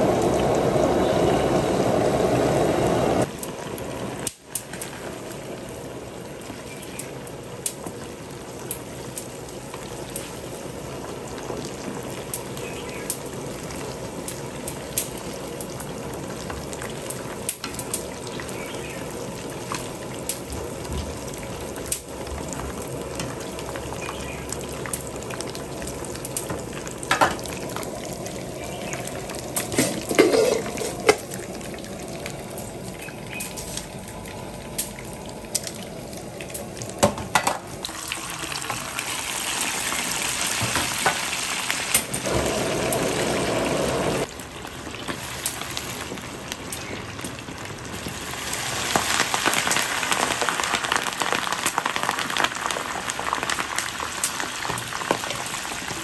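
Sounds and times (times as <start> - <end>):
fish deep-frying in hot oil: 3.2 - 56.0.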